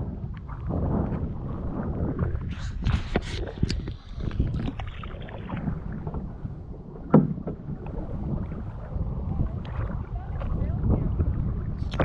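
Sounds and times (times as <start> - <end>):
paddle strokes and water splashing: 0.0 - 12.0.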